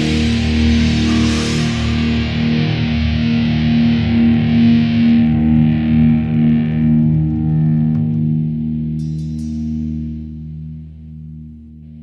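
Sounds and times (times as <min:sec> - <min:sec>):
distorted electric guitar: 0:00.0 - 0:12.0.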